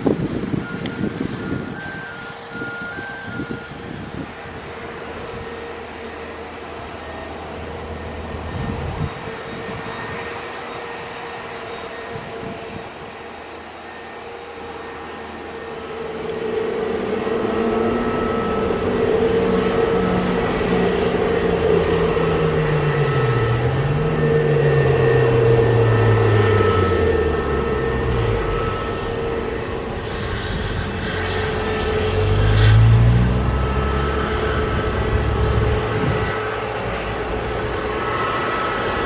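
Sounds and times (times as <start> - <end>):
jet airliner passing: 0.0 - 39.0.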